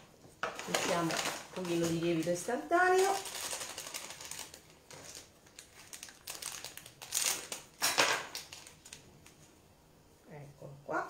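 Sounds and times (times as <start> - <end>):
packet crinkling and rustling: 0.4 - 9.5.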